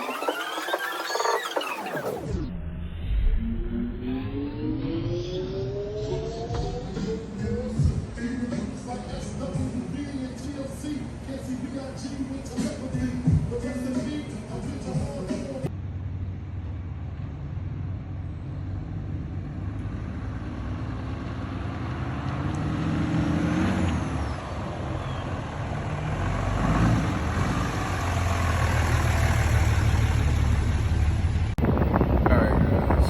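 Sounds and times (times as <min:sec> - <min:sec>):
truck engine and exhaust: 0:00.0 - 0:33.0.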